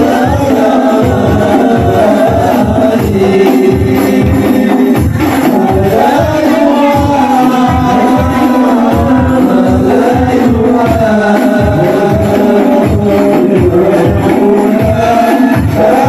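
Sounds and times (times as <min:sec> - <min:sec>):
frame drums beating: 0:00.0 - 0:16.0
voices singing: 0:00.0 - 0:16.0.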